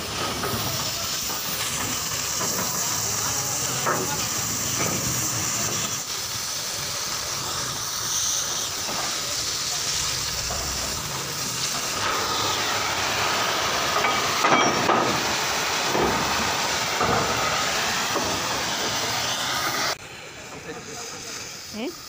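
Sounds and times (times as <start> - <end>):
cutting torch hissing: 0.0 - 22.0.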